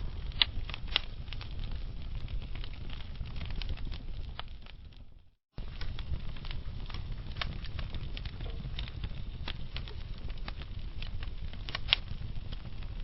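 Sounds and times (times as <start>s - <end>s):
sharp pops and snaps: 0.0s - 13.0s
wood fire crackling: 0.0s - 13.0s.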